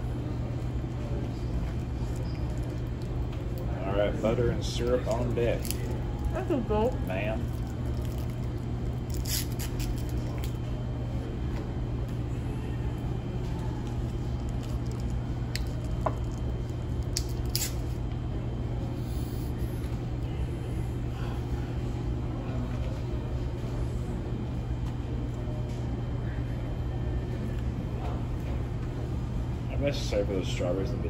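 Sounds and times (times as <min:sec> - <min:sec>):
low hum of restaurant room noise: 0:00.0 - 0:31.0.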